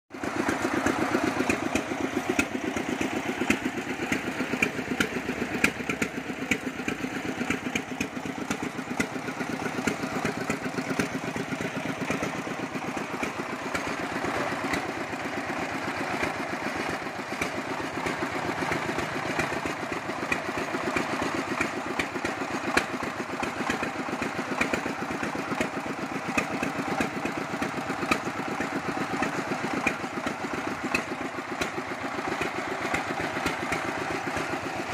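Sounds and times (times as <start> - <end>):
single-cylinder diesel engine running: 0.1 - 34.9.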